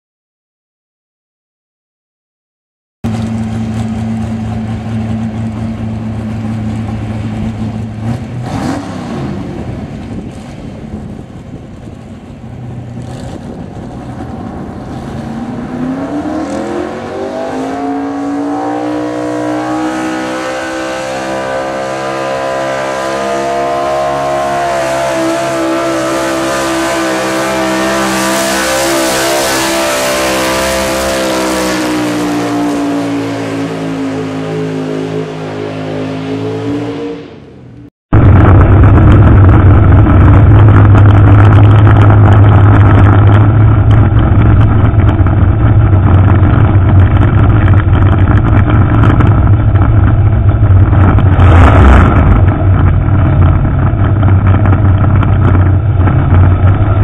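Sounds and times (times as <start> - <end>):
pickup truck engine revving: 3.1 - 57.0.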